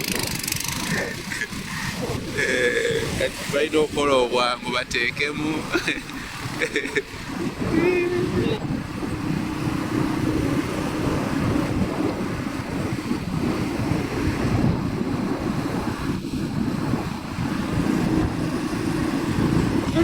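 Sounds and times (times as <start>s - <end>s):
motorcycle engine running: 0.0s - 3.8s, 5.6s - 20.0s
wind buffeting microphone: 0.0s - 20.0s.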